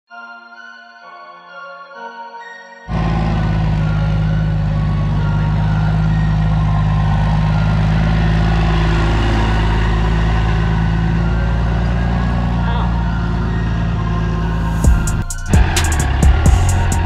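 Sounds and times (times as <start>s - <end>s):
diesel truck engine idling: 2.9s - 17.0s.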